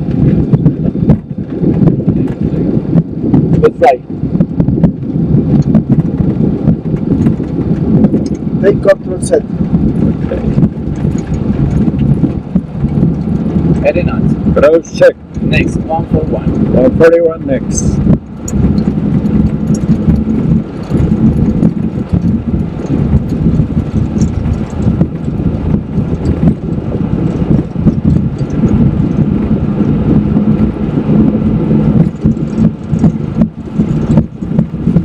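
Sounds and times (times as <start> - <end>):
jet engines rumbling: 0.0 - 35.0
wheels knocking and rattling: 0.0 - 35.0.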